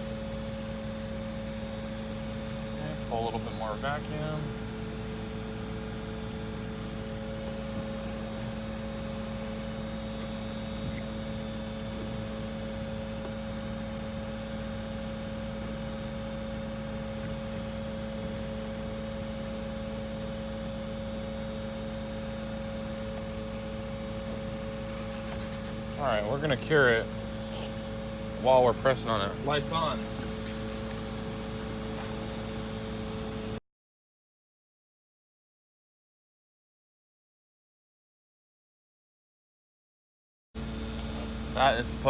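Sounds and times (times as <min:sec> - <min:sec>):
steady mechanical hum: 0:00.0 - 0:33.6, 0:40.6 - 0:42.0.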